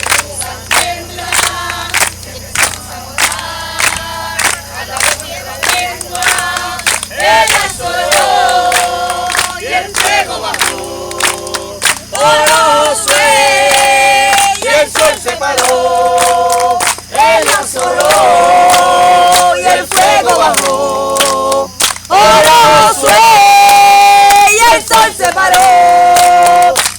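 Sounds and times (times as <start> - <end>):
group of people singing: 0.0 - 26.9.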